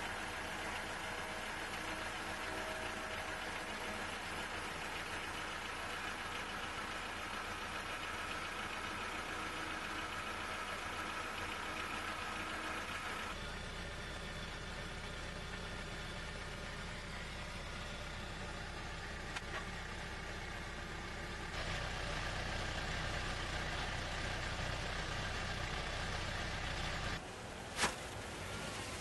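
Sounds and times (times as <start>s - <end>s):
car engine exhaust drone: 0.0s - 29.0s.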